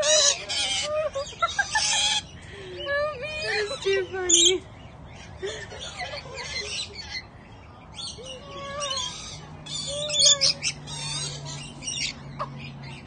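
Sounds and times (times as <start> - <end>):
lorikeets screeching and chattering: 0.0 - 13.0.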